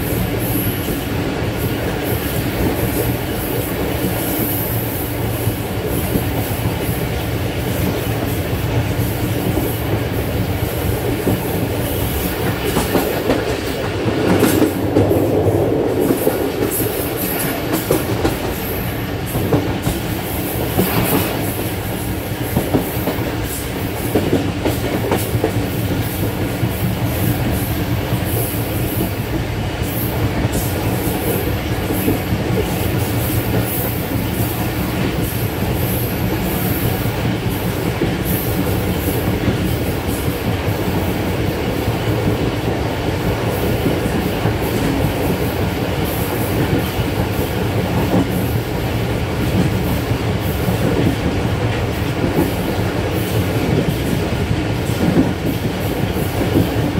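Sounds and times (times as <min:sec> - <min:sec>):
train running noise: 0:00.0 - 0:56.9.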